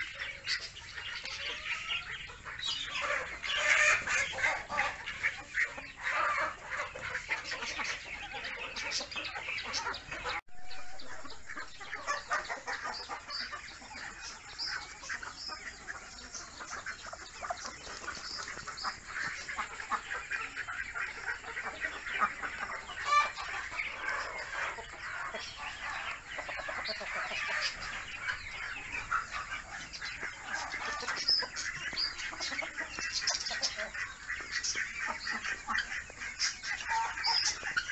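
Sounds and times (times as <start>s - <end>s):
ducklings peeping: 0.0s - 37.9s.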